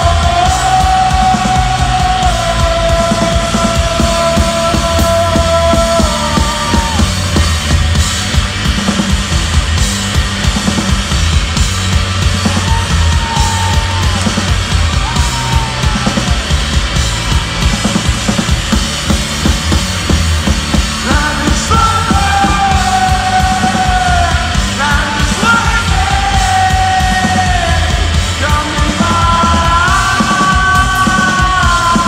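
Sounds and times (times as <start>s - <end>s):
held melody line: 0.0s - 32.0s
live rock band playing: 0.0s - 32.0s.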